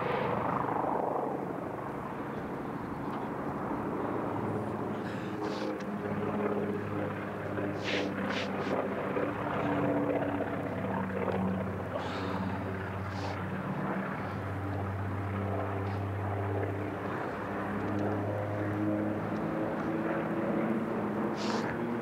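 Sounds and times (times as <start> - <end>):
propeller aircraft engine drone: 0.0 - 22.0.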